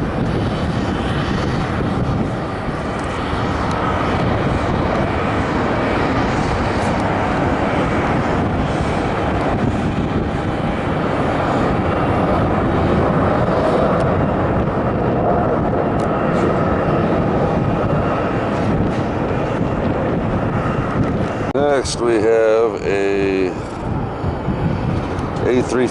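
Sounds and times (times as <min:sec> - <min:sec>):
faint jet engine whine: 0:00.0 - 0:25.9
jet engines roaring: 0:00.0 - 0:25.9.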